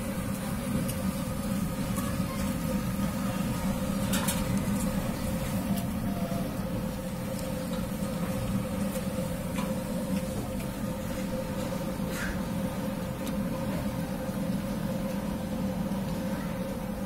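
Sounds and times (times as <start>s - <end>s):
constant low hum: 0.0s - 17.0s
frying in hot oil: 0.0s - 17.0s.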